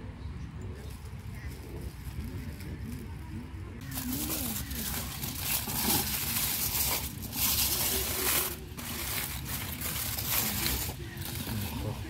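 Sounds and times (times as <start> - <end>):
aluminium foil crinkling: 0.8 - 12.0.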